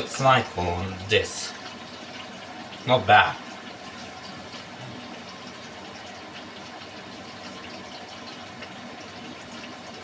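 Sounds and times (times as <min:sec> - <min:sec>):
water rushing into washing machine: 0:00.0 - 0:10.0.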